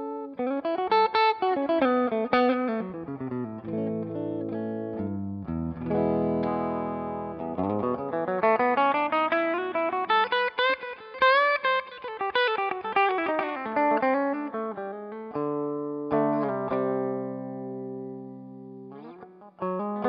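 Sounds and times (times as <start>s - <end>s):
overdriven electric guitar: 0.0s - 20.0s.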